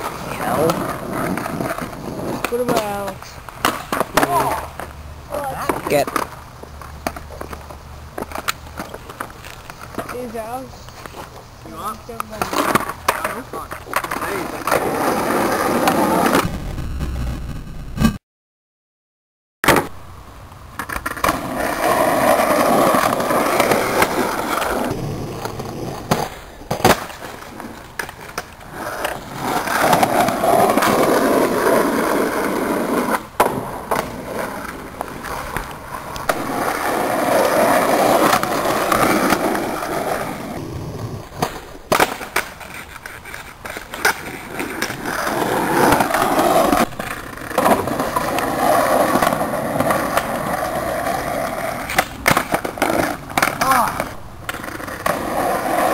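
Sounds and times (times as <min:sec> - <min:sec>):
skateboard clacking on pavement: 0:00.0 - 0:16.4, 0:20.7 - 0:55.9
skateboard wheels rolling on asphalt: 0:00.0 - 0:18.2, 0:19.6 - 0:55.9.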